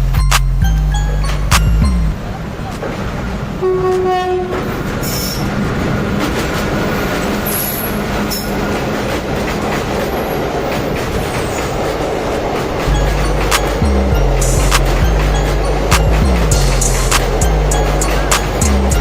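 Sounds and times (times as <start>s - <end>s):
train wagons rumbling: 0.0s - 19.0s.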